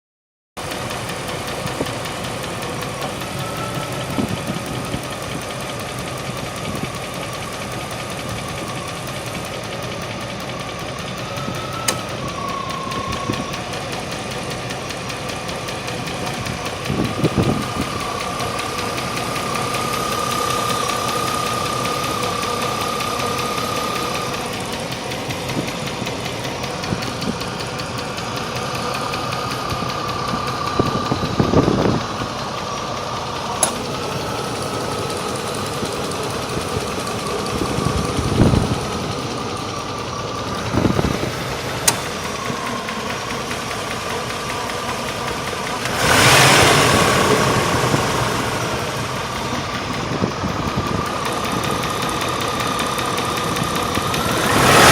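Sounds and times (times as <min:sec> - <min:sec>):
engine running with heavy tick: 0:00.6 - 0:54.9.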